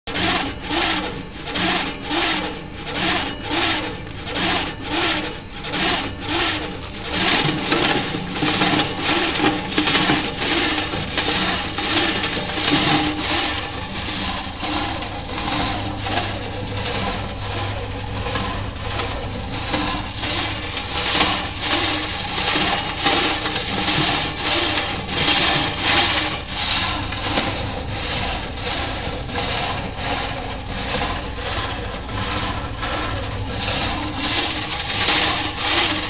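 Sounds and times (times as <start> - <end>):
granulator rhythmic rubbing: 0.1 - 36.0.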